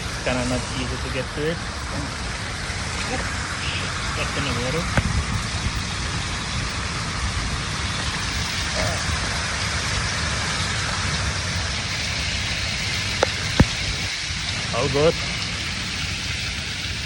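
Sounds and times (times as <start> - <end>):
small waterfall splashing: 0.0 - 17.0.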